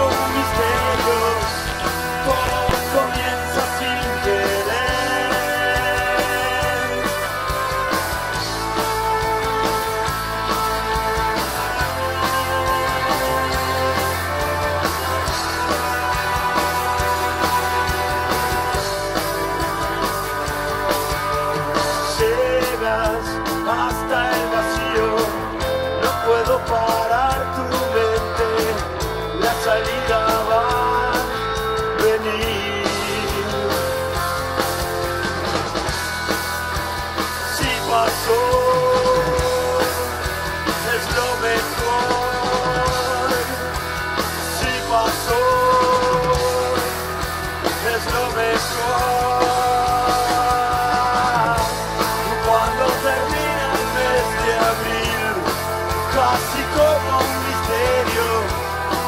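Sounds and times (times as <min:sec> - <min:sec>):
drums: 0:00.0 - 0:59.0
electric guitars: 0:00.0 - 0:59.0
keyboards: 0:00.0 - 0:59.0
live rock band playing: 0:00.0 - 0:59.0.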